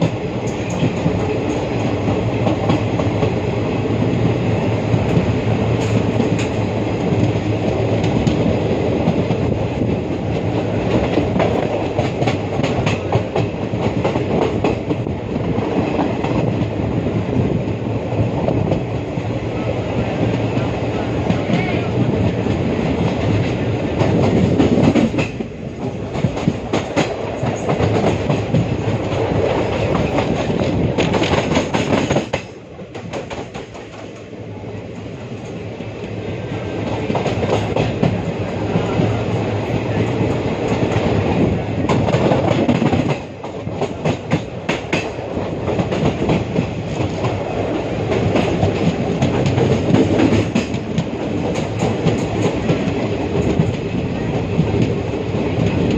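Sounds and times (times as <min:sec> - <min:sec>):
rushing train noise: 0:00.0 - 0:55.9
train wheels clattering over rail joints: 0:04.0 - 0:19.2, 0:21.2 - 0:34.3, 0:36.8 - 0:55.9.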